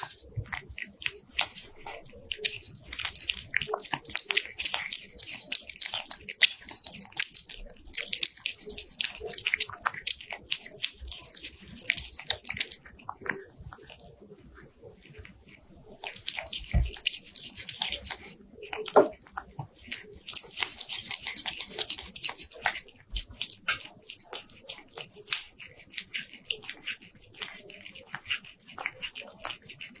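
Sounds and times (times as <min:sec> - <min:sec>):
cat chewing and smacking: 0:00.0 - 0:30.0.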